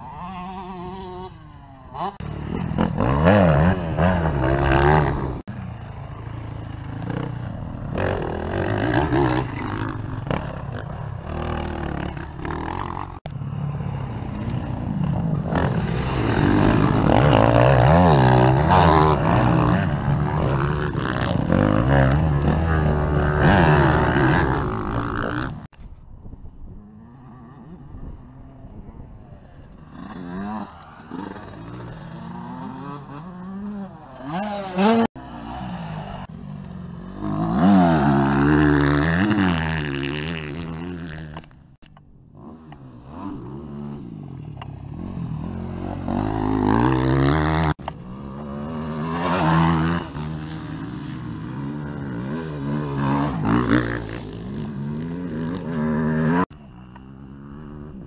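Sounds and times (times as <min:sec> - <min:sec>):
dirt bike engines revving: 0:00.0 - 0:25.8, 0:26.4 - 0:58.0.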